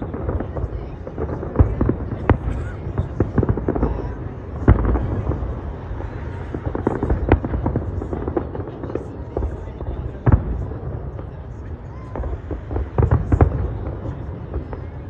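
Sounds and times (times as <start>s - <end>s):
distant fireworks booming and crackling: 0.0s - 15.0s.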